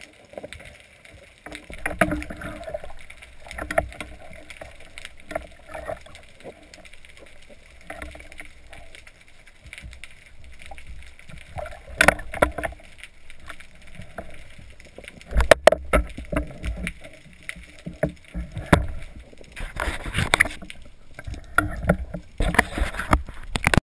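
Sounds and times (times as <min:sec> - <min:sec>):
muffled water sloshing and splashing: 0:00.0 - 0:23.8.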